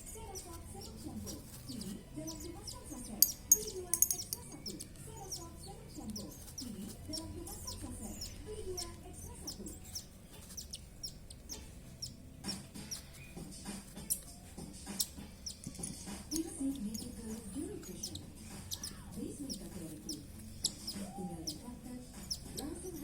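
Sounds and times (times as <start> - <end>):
parrot chicks begging chirps: 0.0 - 23.0.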